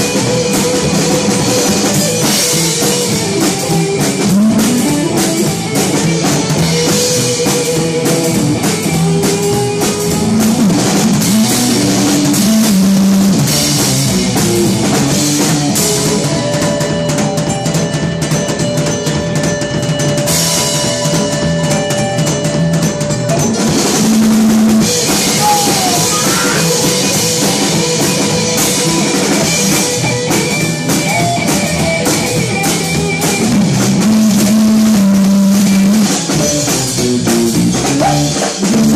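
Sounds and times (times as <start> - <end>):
bass drum beat: 0.0 - 38.9
rock band playing live: 0.0 - 38.9.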